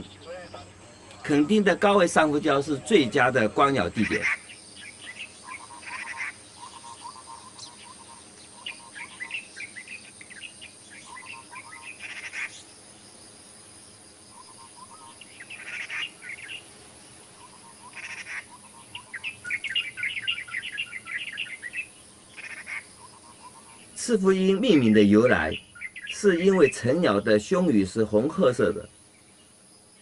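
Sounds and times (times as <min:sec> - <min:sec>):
bird trilling: 0:00.0 - 0:12.8, 0:14.3 - 0:16.7, 0:17.3 - 0:28.2
birds chirping: 0:00.0 - 0:30.0.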